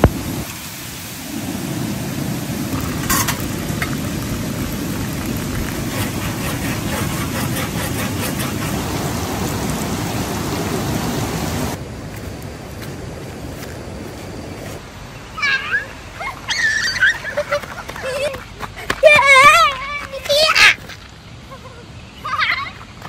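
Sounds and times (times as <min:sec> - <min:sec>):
rushing water: 0:00.0 - 0:20.5
outdoor background noise: 0:00.0 - 0:23.0.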